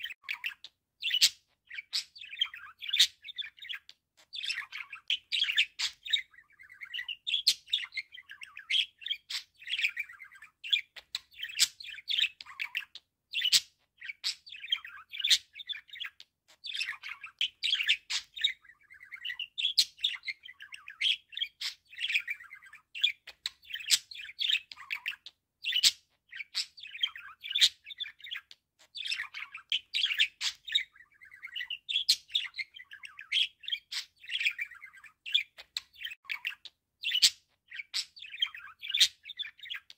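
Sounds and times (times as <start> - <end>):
budgerigar warbling and chattering: 0.0 - 39.9.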